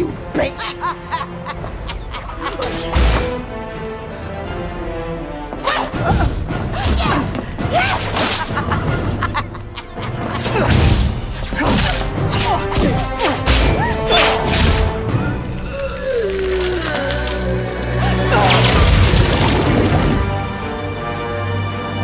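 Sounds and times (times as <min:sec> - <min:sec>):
dramatic film score music: 0:00.0 - 0:22.0.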